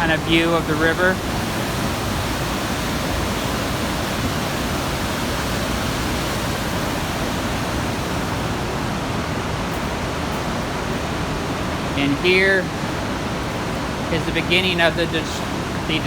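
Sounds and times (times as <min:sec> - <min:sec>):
river rushing through gorge: 0:00.0 - 0:16.0.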